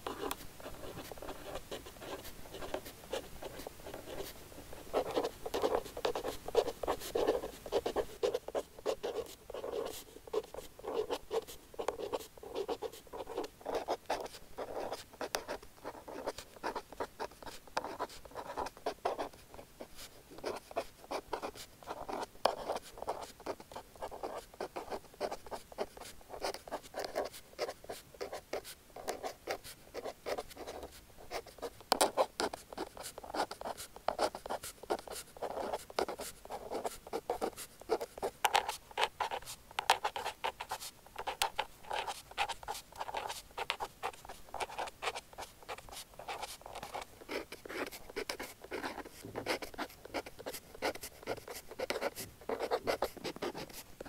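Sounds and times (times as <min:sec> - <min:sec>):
pen nib scratching paper: 0:00.0 - 0:54.0.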